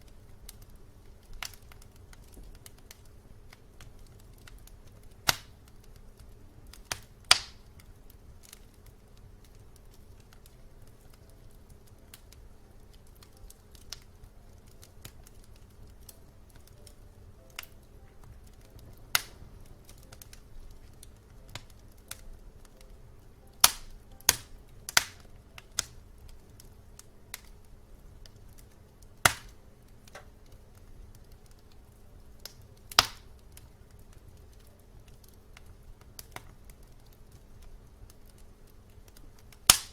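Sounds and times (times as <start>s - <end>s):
faint steady low noise: 0.0s - 39.7s
wood fire crackling: 0.0s - 39.9s.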